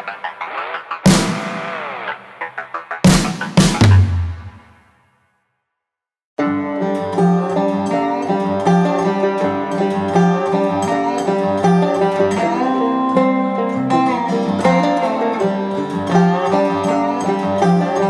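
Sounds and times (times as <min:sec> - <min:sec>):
background music: 0:00.0 - 0:04.9, 0:06.4 - 0:18.0.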